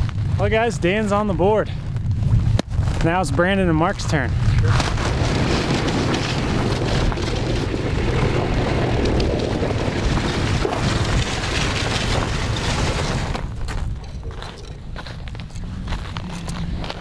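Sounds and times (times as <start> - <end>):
snowmobile engine rumble: 0.0 - 17.0
wind buffeting microphone: 0.0 - 17.0.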